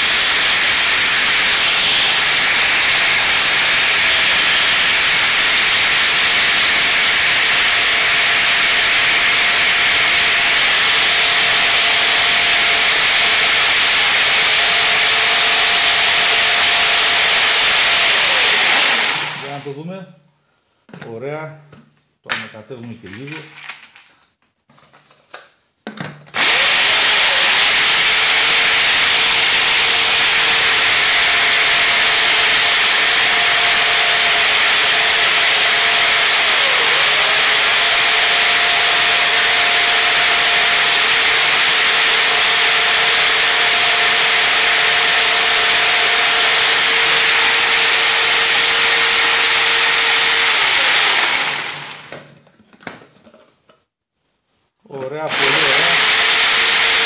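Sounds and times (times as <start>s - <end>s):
electric drill chopping corn: 0.0s - 19.6s, 26.4s - 52.3s, 55.1s - 57.0s.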